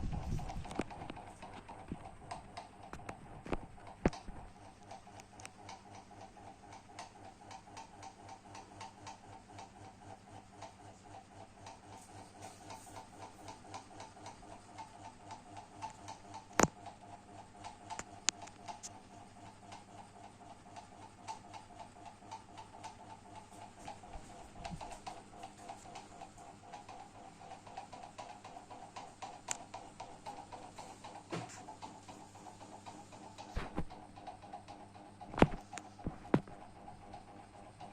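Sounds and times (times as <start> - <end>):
ceiling fan humming and ticking: 0.0 - 37.9.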